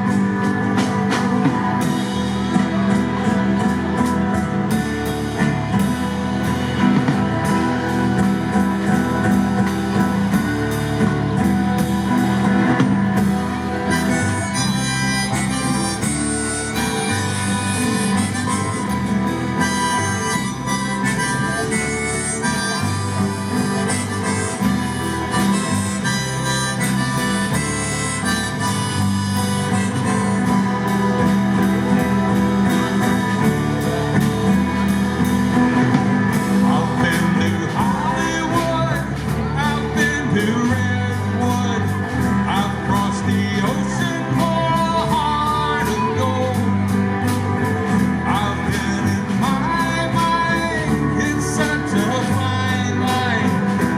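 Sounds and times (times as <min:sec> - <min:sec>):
harmonica: 0:00.0 - 0:53.9
live band playing: 0:00.0 - 0:53.9.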